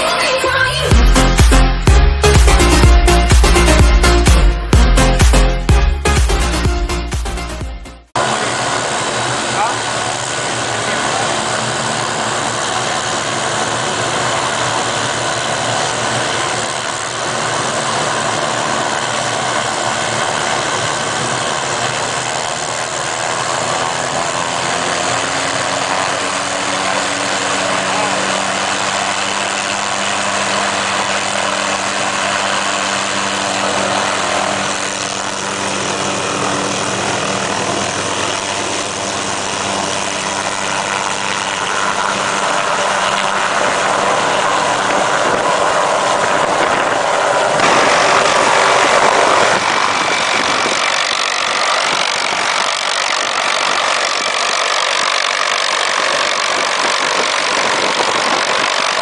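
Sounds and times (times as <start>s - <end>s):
helicopter rotor noise: 0.0s - 59.0s
helicopter turbine engine whine: 0.0s - 59.0s.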